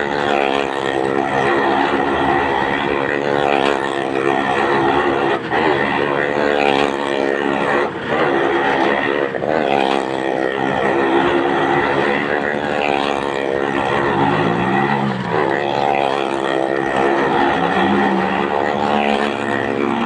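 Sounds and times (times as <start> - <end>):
car and motorcycle engines revving: 0.0 - 20.0.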